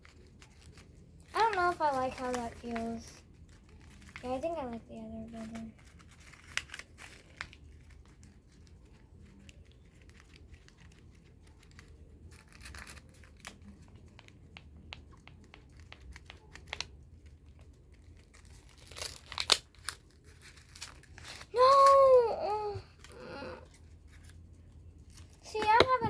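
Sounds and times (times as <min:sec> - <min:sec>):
paper crinkling: 0:00.0 - 0:26.0.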